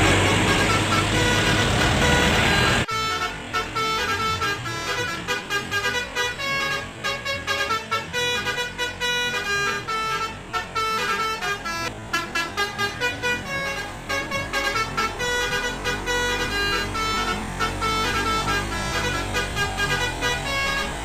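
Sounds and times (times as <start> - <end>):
bus horn playing melody: 0.0 - 21.0.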